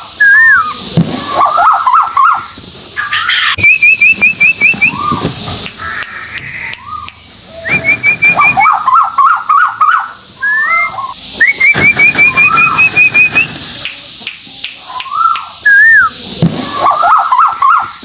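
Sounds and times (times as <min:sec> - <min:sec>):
songbird singing: 0:00.0 - 0:16.2.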